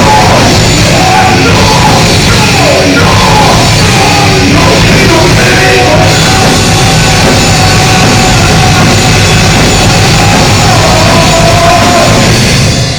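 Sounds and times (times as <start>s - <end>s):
live heavy metal band: 0.0s - 12.9s.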